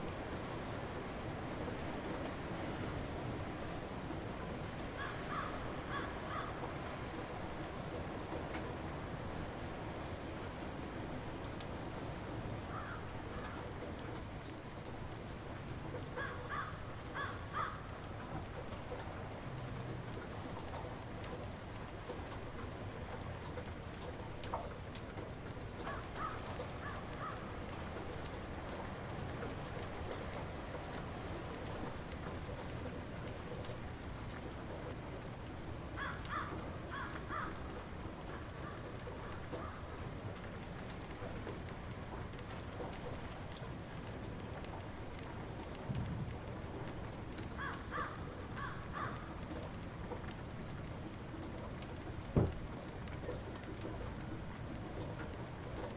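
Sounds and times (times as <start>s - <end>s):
light rain falling: 0.0s - 55.9s.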